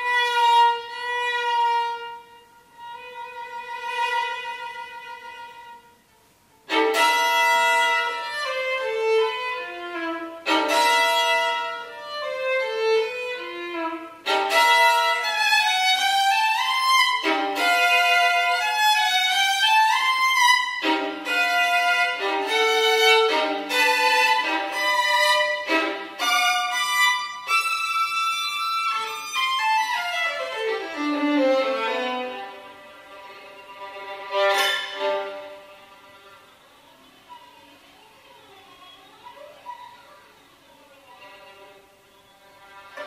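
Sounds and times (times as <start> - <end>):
solo violin: 0.0 - 36.7, 40.8 - 43.0.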